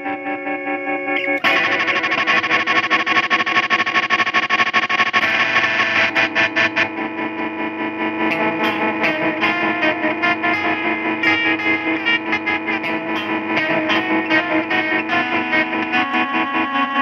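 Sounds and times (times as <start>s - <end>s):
heavily processed electric guitar: 0.0s - 17.0s.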